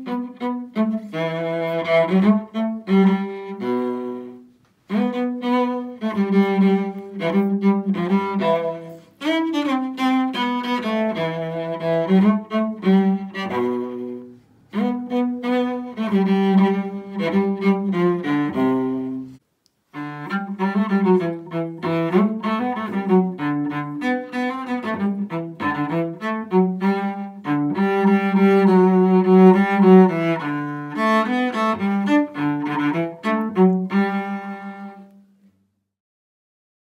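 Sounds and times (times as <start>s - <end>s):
solo cello playing carol: 0.0s - 35.5s.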